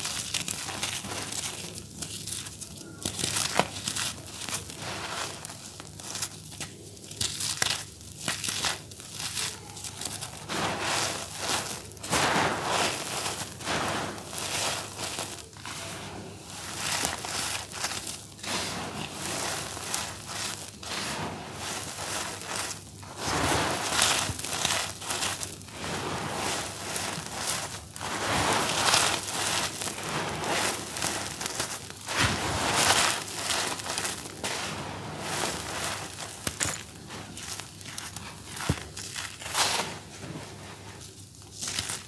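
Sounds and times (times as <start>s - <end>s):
gritty rustle of pouring grit: 0.0s - 42.0s
hands crumbling dry charcoal: 0.0s - 42.0s.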